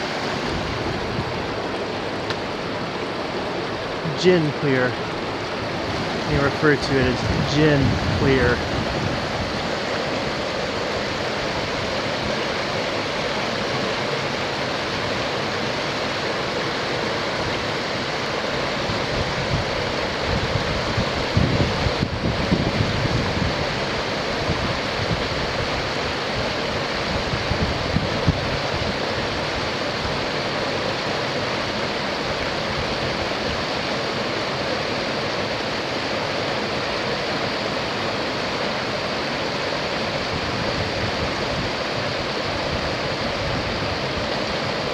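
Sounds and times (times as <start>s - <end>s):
river rushing over boulders: 0.0s - 44.9s.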